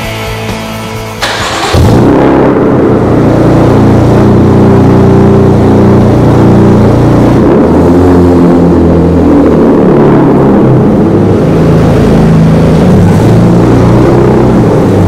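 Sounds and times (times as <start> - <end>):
car engine revving: 1.2 - 15.0.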